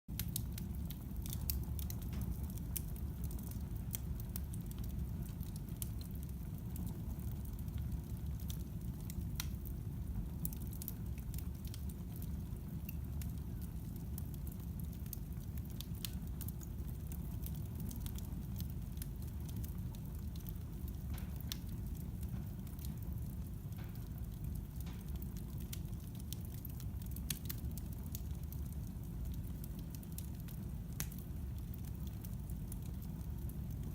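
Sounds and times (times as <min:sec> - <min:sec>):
fire crackling in a fireplace: 0:00.1 - 0:33.9.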